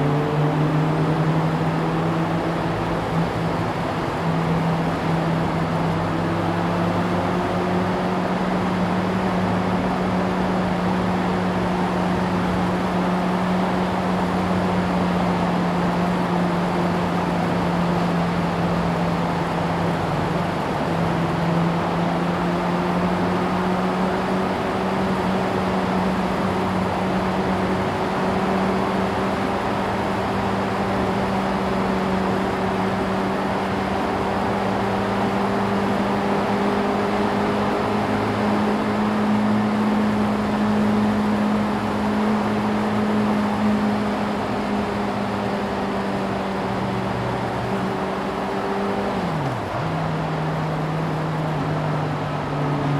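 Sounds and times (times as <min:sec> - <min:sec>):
motorcycle engine cruising: 0:00.0 - 0:52.9
wind and road noise: 0:00.0 - 0:52.9.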